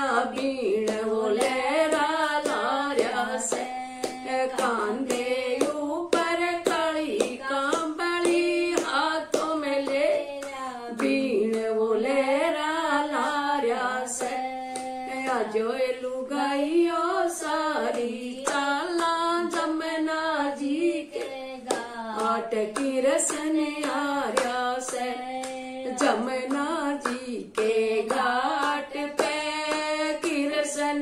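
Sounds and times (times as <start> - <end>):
hand claps: 0.0 - 31.0
woman singing unaccompanied: 0.0 - 31.0.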